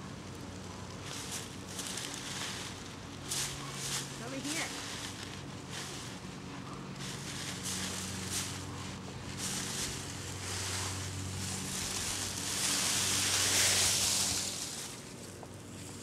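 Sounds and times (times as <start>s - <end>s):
dry leaves rustling and crackling: 0.0s - 16.0s.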